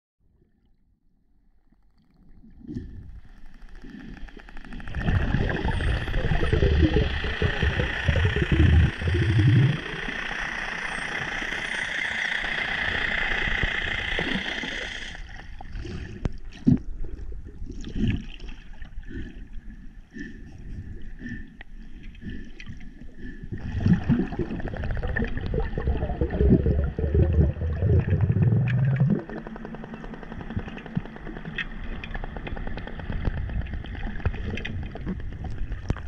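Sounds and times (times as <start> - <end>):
underwater engine hum: 0.3 - 36.0.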